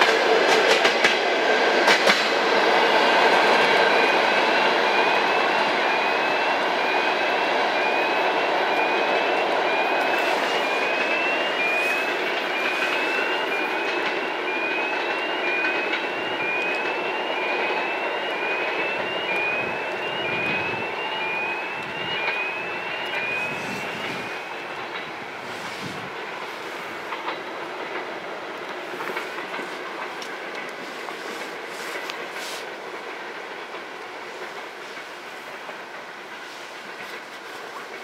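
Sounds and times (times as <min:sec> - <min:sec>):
train coaches rumbling on rails: 0:00.0 - 0:38.0.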